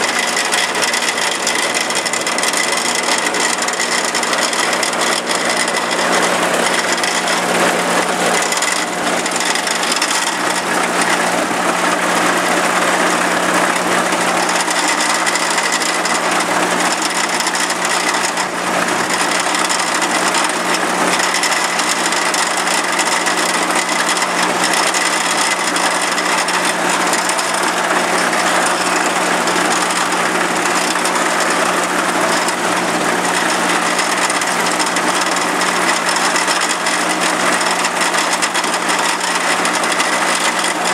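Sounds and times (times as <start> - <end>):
farm machinery engines droning: 0.0 - 40.9.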